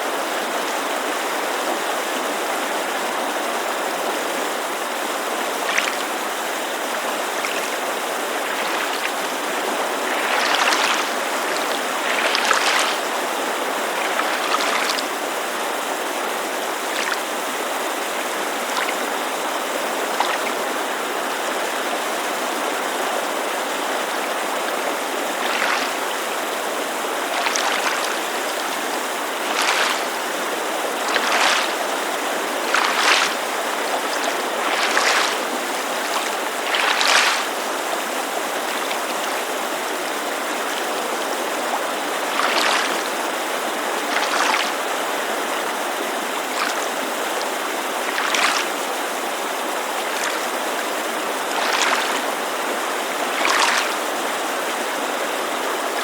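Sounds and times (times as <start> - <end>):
creek rushing: 0.0 - 56.0
small waves lapping at shore: 0.0 - 56.0.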